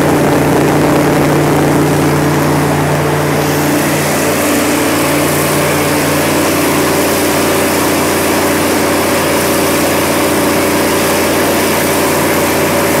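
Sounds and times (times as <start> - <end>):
diesel generator engine running: 0.0 - 13.0.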